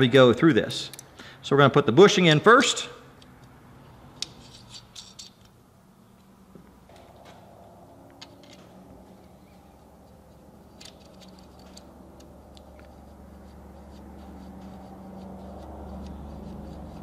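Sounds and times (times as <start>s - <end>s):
low steady hum: 3.0s - 17.0s.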